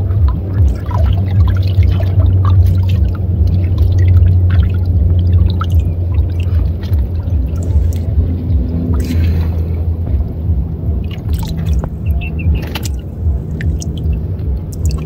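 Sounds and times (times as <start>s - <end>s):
hands splashing water: 0.0s - 15.0s
steady low hum: 0.0s - 15.0s
water dripping: 0.0s - 15.0s.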